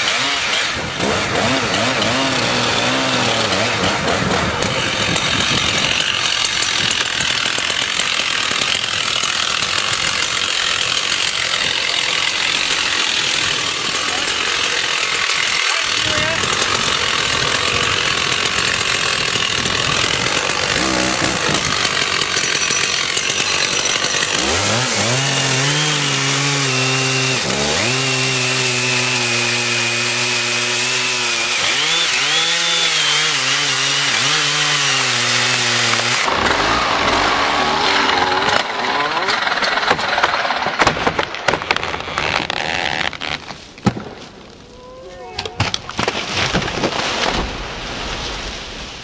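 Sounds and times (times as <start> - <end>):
chainsaw cutting tree: 0.0 - 43.6
wood cracking and snapping: 0.0 - 44.3, 45.6 - 47.7.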